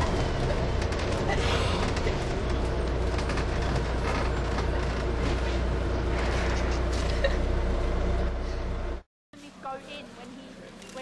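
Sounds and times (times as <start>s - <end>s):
train carriage rumble: 0.0s - 11.0s.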